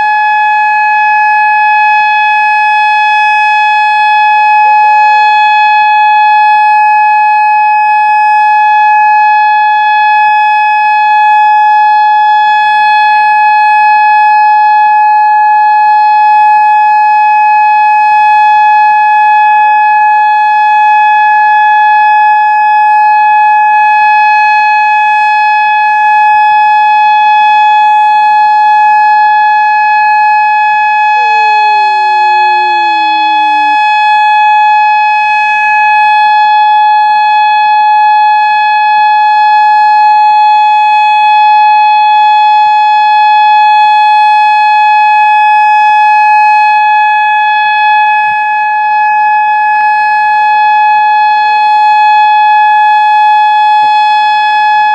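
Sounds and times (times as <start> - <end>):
warning siren steady tone: 0.0 - 54.9.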